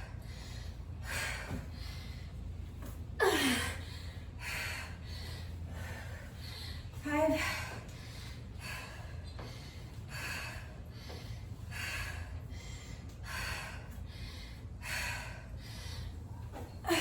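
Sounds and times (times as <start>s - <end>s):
steady low hum: 0.0s - 17.0s
woman breathing hard: 0.0s - 17.0s.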